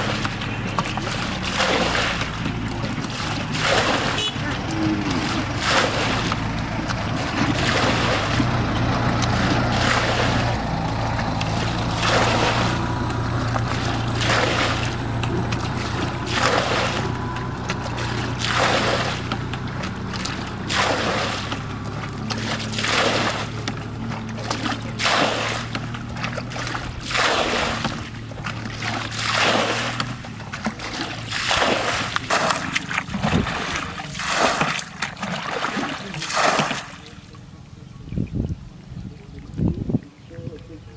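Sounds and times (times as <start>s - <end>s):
water splashing from bucket: 0.0s - 37.4s
steady low hum: 0.0s - 40.9s.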